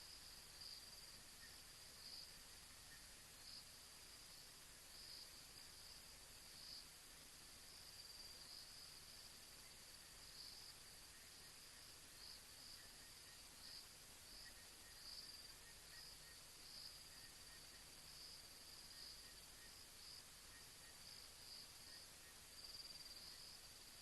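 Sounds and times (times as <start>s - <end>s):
night insects trilling: 0.0s - 24.0s.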